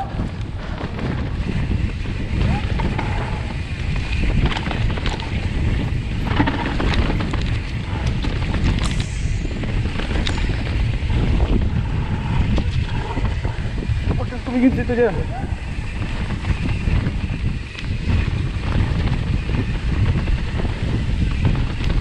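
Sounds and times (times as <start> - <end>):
bike clicking and rattling: 0.0 - 22.0
tyres rolling over dirt: 0.0 - 22.0
wind buffeting microphone: 0.0 - 22.0.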